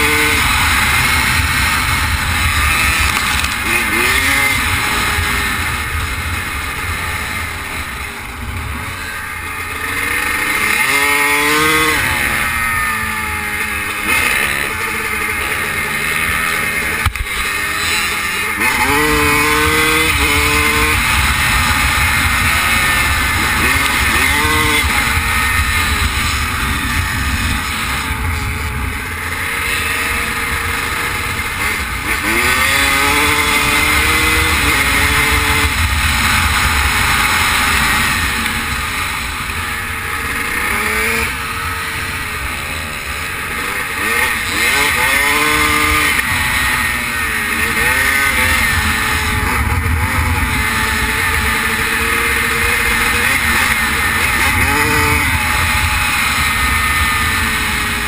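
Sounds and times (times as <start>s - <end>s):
dirt bike engine accelerating: 0.0s - 58.0s.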